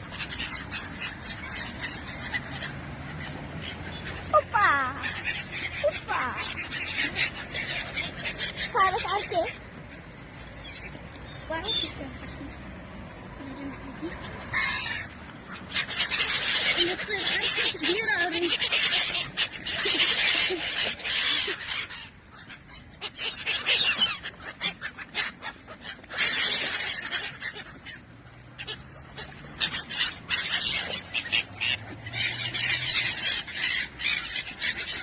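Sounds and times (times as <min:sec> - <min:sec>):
birds squabbling and squawking: 0:00.0 - 0:35.0.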